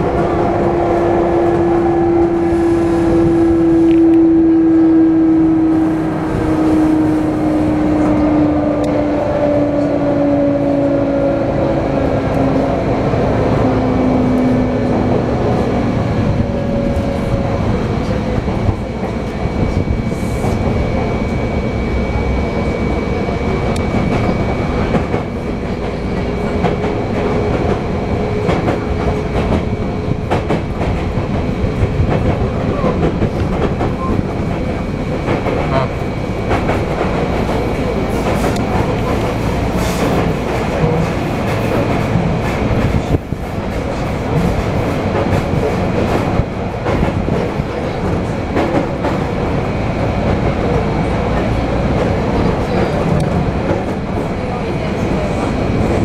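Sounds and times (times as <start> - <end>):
electric train motors humming: 0.0 - 56.0
train rolling noise: 0.0 - 56.0.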